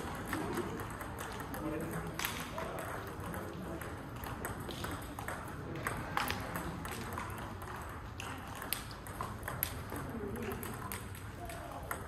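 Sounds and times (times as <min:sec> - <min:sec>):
table tennis ball clicks: 0:00.0 - 0:12.0.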